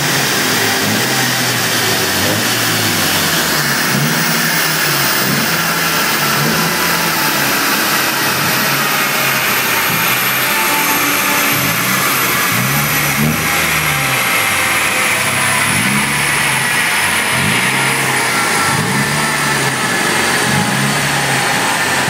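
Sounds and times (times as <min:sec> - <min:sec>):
car engine revving: 0:00.0 - 0:22.0
loud rushing noise: 0:00.0 - 0:22.0.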